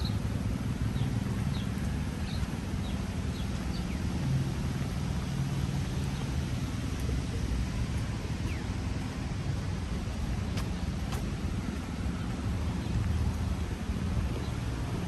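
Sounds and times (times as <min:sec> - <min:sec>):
low engine rumble: 0:00.0 - 0:15.0
wet traffic: 0:00.0 - 0:15.0.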